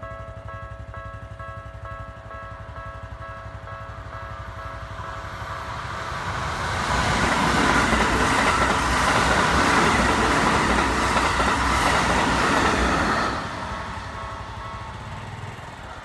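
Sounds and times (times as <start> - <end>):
level crossing warning bell: 0.0 - 6.4, 7.7 - 16.0
electric train passing: 0.0 - 16.0.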